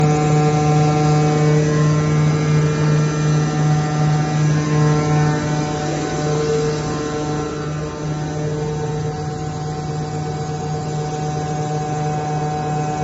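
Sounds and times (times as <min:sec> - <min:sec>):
hydraulic pump motor humming: 0:00.0 - 0:13.0.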